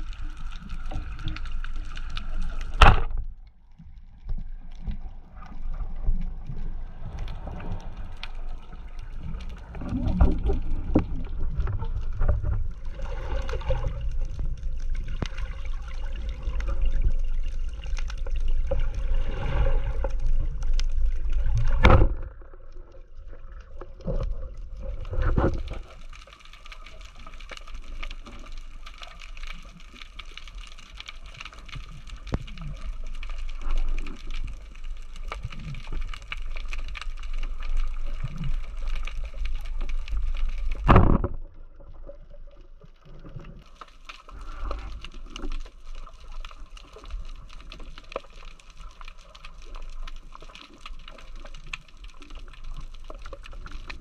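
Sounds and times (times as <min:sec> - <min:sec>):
fine crackle: 0:00.0 - 0:54.0
underwater rumble of moving water: 0:00.0 - 0:54.0.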